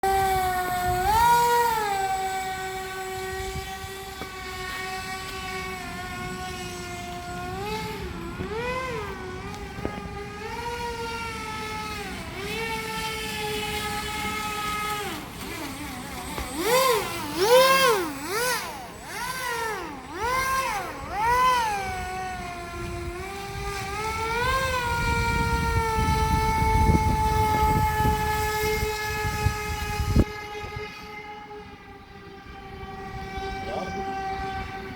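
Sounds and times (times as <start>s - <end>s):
rc airboat motor whining: 0.0s - 34.9s.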